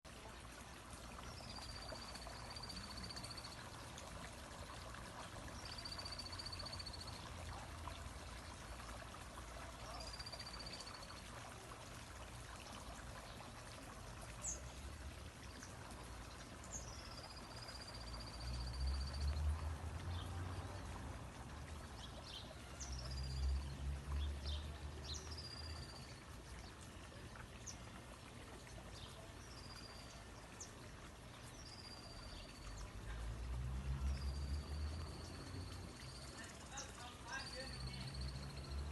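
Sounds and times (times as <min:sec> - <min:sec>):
water running: 0:00.1 - 0:38.9.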